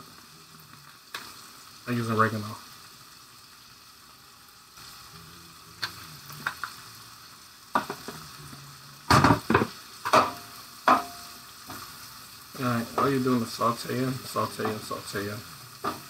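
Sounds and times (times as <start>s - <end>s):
greens sizzling in a skillet: 0.0s - 16.0s.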